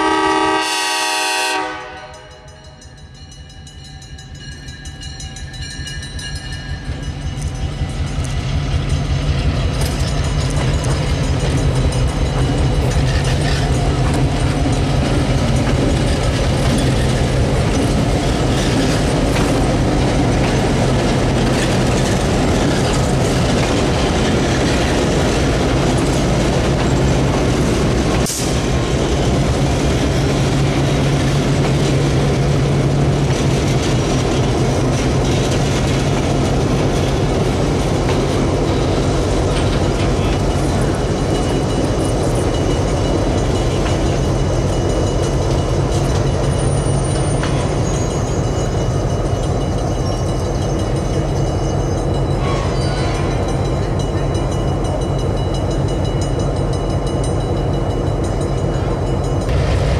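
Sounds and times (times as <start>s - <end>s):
diesel locomotive hum: 0.0s - 59.9s
train rolling rumble: 0.0s - 59.9s.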